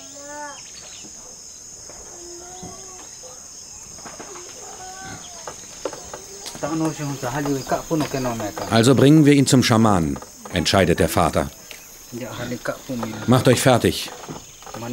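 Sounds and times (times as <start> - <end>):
insects droning: 0.0 - 14.9.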